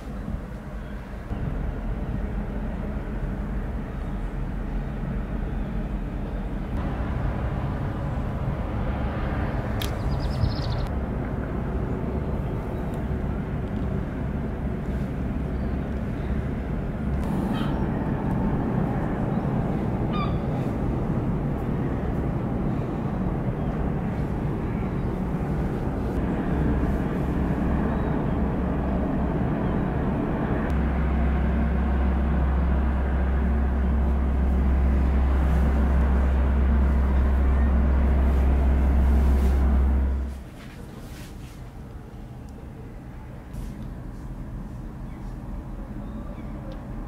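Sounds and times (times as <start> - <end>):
ship engines droning: 0.0 - 47.0.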